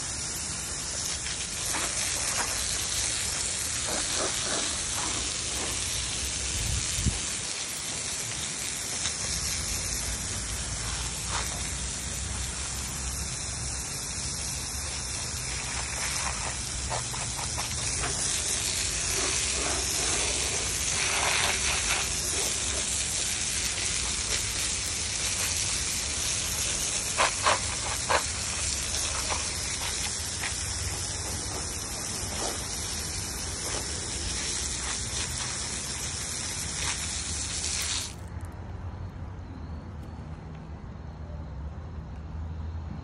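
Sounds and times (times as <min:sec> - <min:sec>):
water jet spraying: 0:00.0 - 0:38.3.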